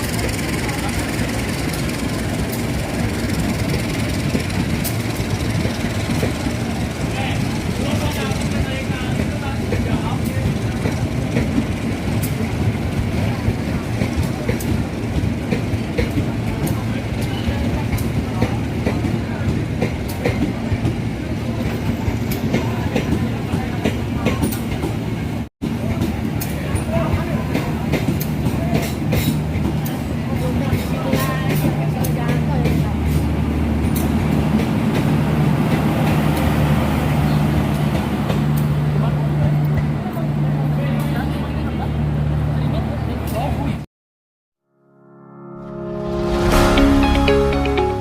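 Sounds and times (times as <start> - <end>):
train rumbling past: 0.0 - 43.8, 45.0 - 48.0.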